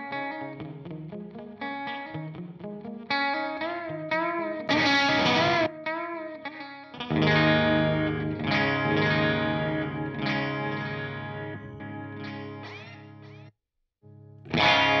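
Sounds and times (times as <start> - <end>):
electric guitar with delay and reverb: 0.0 - 13.5, 14.4 - 15.0
plucked guitar notes wavering pitch: 0.0 - 13.5, 14.1 - 15.0
strummed guitar chords ringing: 0.0 - 13.5, 14.1 - 15.0.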